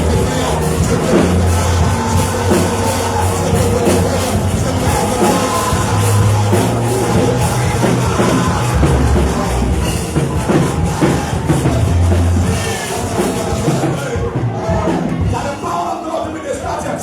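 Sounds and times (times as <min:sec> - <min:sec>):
bass line: 0:00.0 - 0:15.9
congregation singing: 0:00.0 - 0:17.0
drums: 0:00.0 - 0:17.0
live church praise band: 0:00.0 - 0:17.0.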